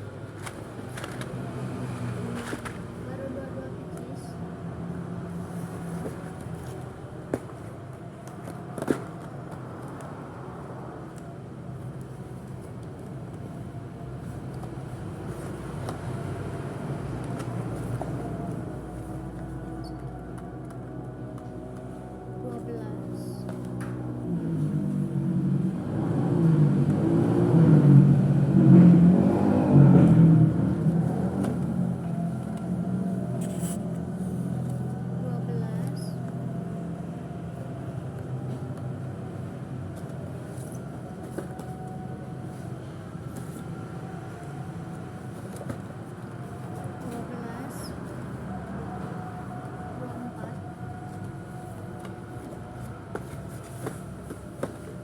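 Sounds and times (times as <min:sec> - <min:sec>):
engine humming: 0:04.3 - 0:55.0.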